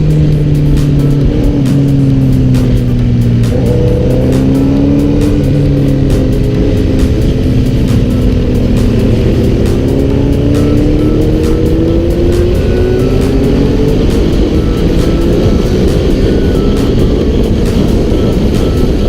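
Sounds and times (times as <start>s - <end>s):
background music: 0.0s - 19.0s
motorcycle engine shifting gears: 0.0s - 19.0s.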